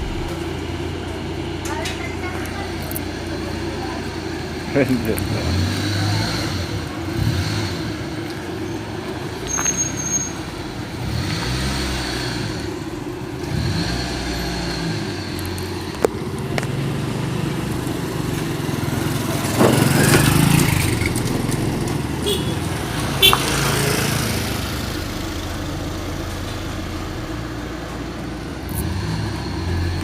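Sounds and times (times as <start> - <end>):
car engine running: 0.0 - 9.5, 10.4 - 30.0
road noise: 0.0 - 30.0.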